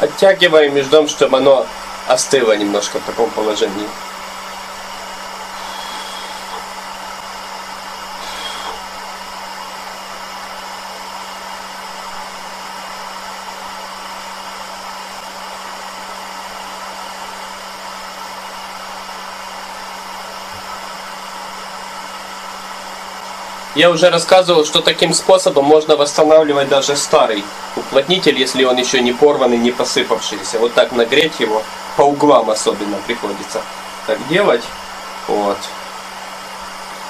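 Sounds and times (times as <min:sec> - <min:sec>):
hot-air blower running: 0:00.0 - 0:37.0.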